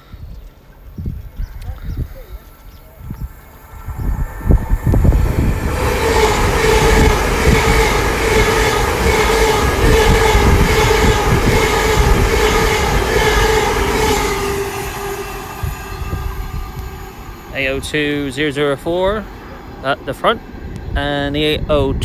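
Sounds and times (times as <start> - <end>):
train passing at speed: 2.9 - 22.0.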